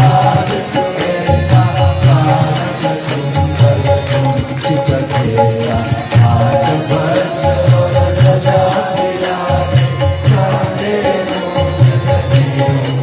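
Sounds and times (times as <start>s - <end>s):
claps or small cymbal strikes: 0.0s - 13.0s
harmonium chords: 0.0s - 13.0s
tabla rhythm: 0.0s - 13.0s.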